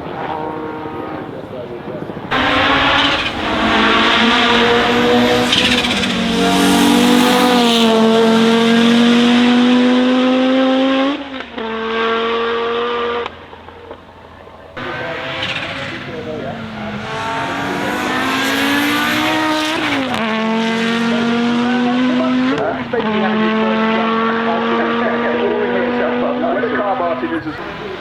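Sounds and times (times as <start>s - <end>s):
car engine accelerating hard: 2.3s - 13.5s, 14.8s - 27.9s.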